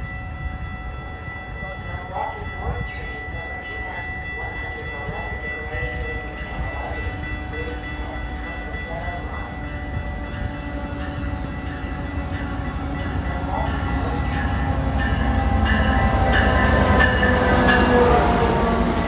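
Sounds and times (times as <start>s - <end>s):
distant train rumble: 0.0s - 19.0s.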